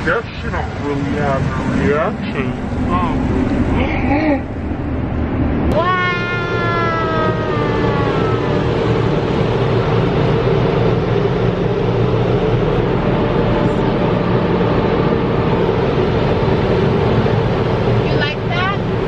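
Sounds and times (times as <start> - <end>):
car wash machinery rushing: 0.0 - 19.0
low hum: 0.0 - 19.0.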